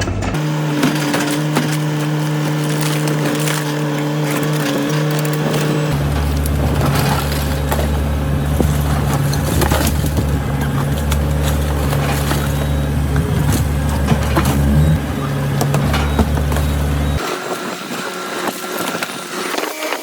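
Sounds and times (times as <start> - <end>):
heavy diesel machine running: 0.0 - 19.4
soil and debris crunching: 0.1 - 19.5.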